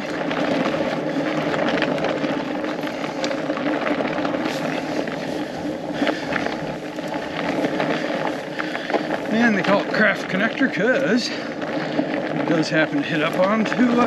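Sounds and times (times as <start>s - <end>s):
bike clicking and rattling: 0.0s - 14.0s
bike tyres humming on snow: 0.0s - 14.0s.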